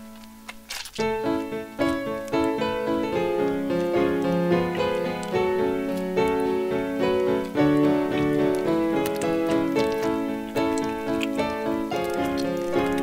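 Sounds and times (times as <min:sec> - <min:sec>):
piano music with chords: 0:00.0 - 0:13.0.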